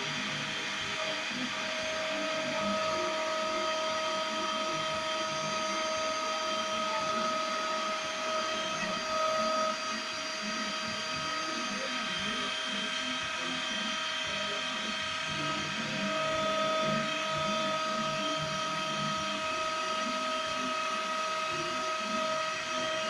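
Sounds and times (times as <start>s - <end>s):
milling machine motor whine: 0.0s - 23.0s.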